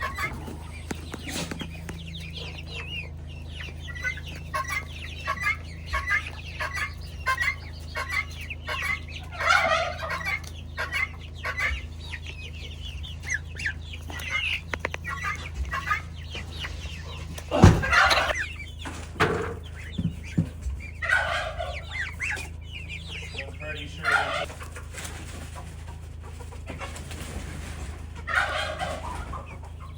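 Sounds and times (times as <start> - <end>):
chicks chirping and clucking: 0.0 - 29.9
steady low hum: 0.0 - 29.9.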